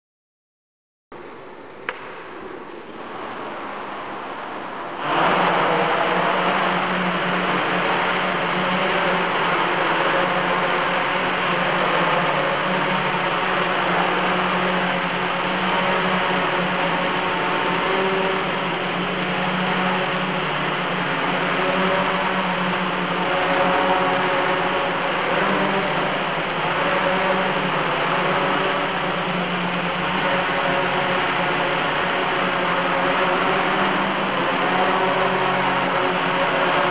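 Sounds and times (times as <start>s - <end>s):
drone motors and propellers: 1.9s - 36.9s.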